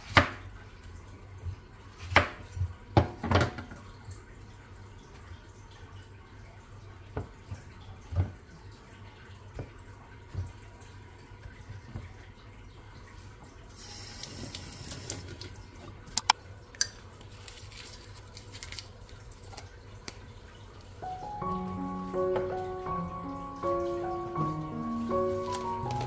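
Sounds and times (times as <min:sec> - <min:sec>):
tap water running into sink: 0:00.8 - 0:16.9, 0:19.5 - 0:26.0.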